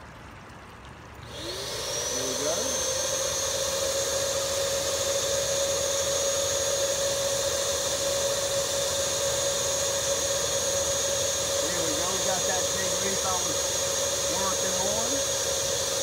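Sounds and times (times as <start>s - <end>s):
pond vacuum motor humming: 0.0s - 16.0s.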